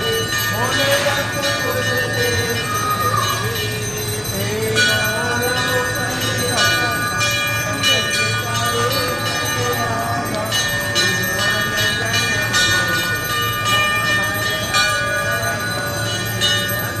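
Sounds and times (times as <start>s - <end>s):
temple bells ringing: 0.0s - 17.0s.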